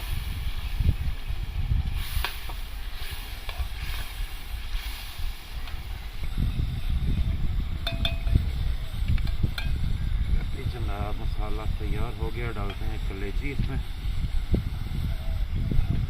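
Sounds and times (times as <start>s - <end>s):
tomatoes sizzling in a pan: 0.0s - 16.0s.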